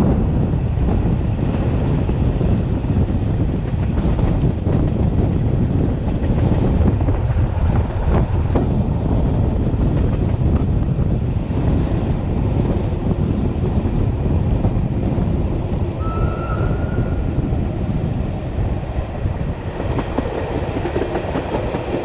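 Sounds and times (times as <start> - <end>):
train wheels rumbling on track: 0.0 - 22.0
wind buffeting microphone: 0.0 - 22.0.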